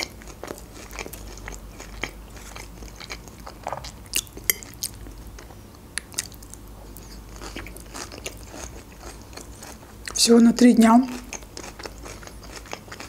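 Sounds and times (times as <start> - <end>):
lettuce crunching while chewing: 0.0 - 10.2, 11.1 - 13.0.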